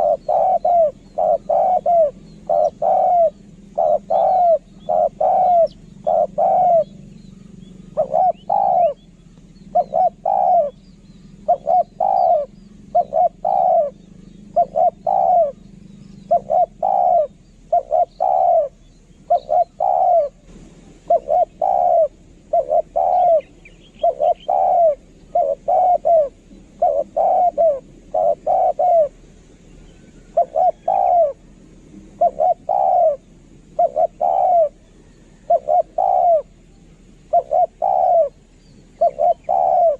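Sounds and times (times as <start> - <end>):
dove cooing: 0.0 - 39.9
low steady hum: 0.0 - 39.9
small birds chirping: 0.0 - 39.9.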